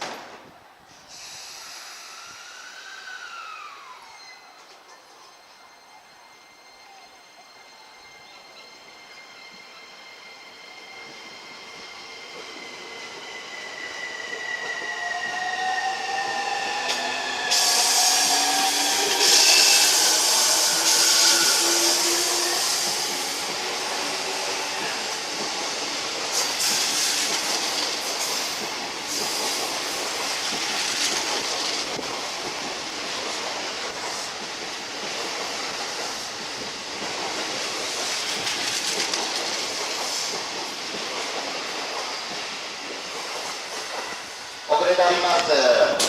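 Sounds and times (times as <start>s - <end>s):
train wheels rushing on rails: 0.0s - 5.5s, 6.3s - 46.0s.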